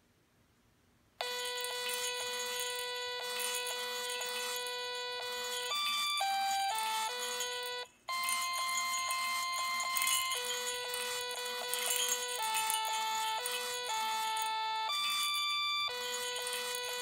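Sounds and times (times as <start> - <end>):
jingle bells jingling: 1.2 - 17.0
robot beeping electronic tune: 1.2 - 17.0.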